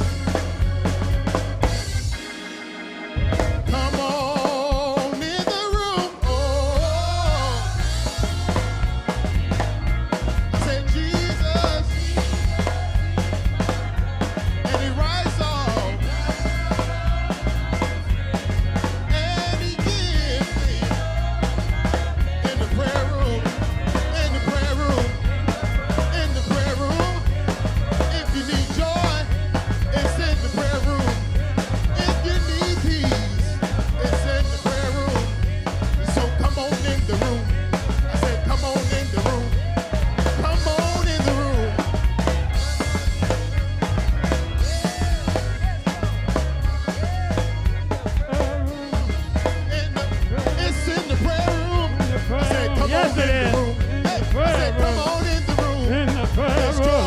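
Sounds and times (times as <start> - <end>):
gospel band playing: 0.0 - 57.0
people singing: 0.0 - 57.0.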